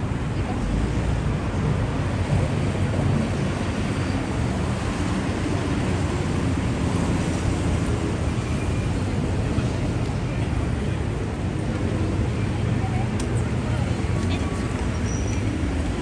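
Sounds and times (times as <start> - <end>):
street noise: 0.0 - 16.0
traffic rumble: 0.0 - 16.0.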